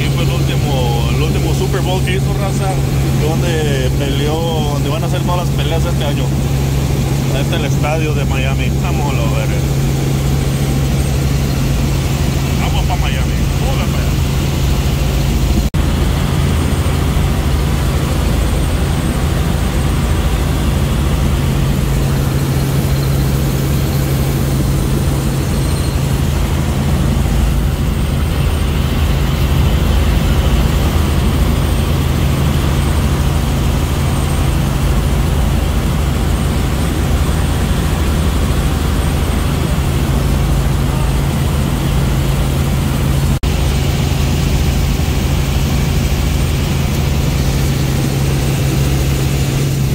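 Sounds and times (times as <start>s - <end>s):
helicopter engine and rotors droning: 0.0s - 49.9s
low hum: 0.0s - 49.9s.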